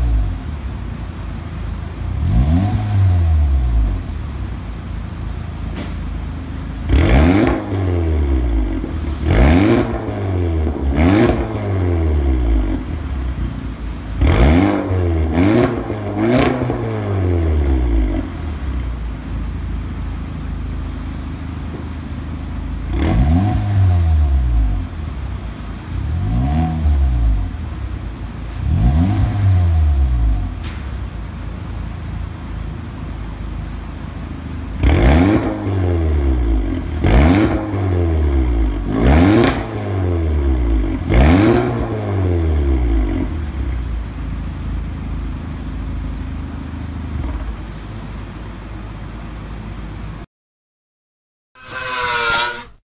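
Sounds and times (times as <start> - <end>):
car engine idling and revving: 0.0 - 50.3.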